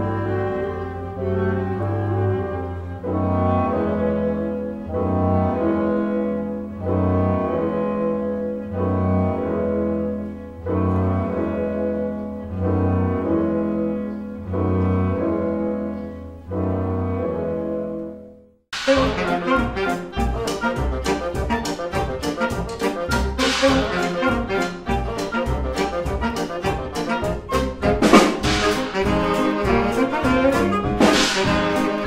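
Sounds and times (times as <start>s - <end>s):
chamber ensemble playing: 0.0s - 18.2s, 18.8s - 32.0s.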